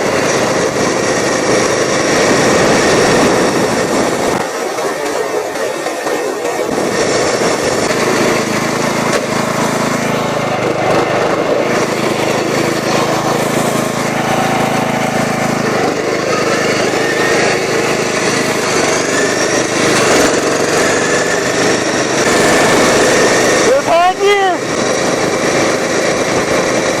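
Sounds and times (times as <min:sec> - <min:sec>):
lawn mower engine running hard: 0:00.0 - 0:27.0.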